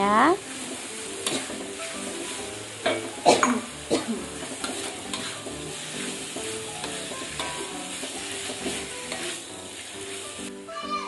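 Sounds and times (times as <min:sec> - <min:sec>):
food sizzling in hot oil: 0:00.0 - 0:11.0
light background music: 0:00.0 - 0:11.0.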